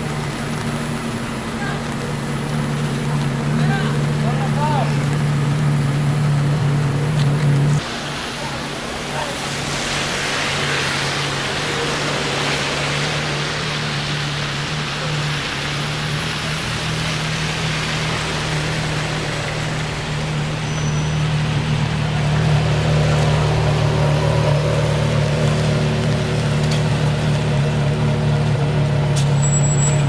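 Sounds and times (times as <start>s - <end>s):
car engine idling: 0.0s - 9.3s, 13.2s - 30.0s.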